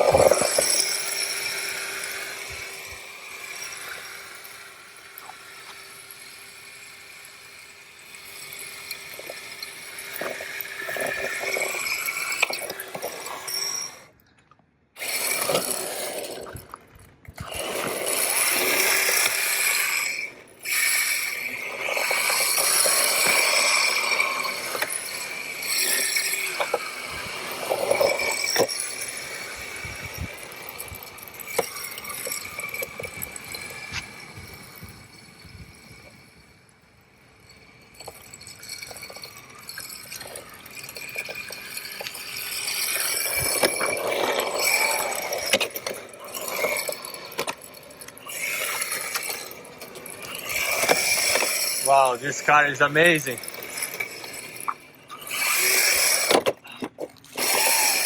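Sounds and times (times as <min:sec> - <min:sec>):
tyres scraping while sliding: 0:00.0 - 0:05.9, 0:08.9 - 0:14.2, 0:15.0 - 0:36.1, 0:38.0 - 0:58.0
rc car electric motor whining: 0:00.0 - 0:14.2, 0:15.0 - 0:58.0.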